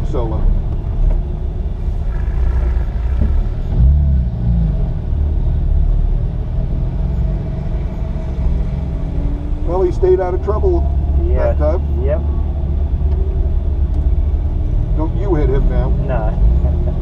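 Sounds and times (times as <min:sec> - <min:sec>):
car engine from inside cabin: 0:00.0 - 0:17.0
tyre road rumble: 0:00.0 - 0:17.0.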